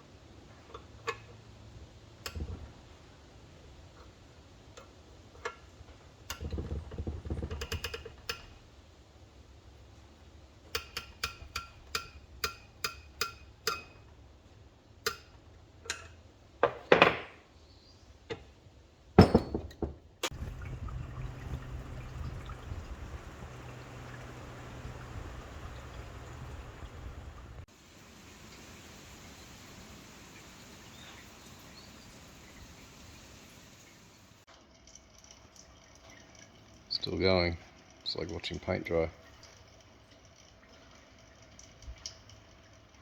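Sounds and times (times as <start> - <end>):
fuel dripping into container: 0.5 - 16.4, 20.2 - 43.0.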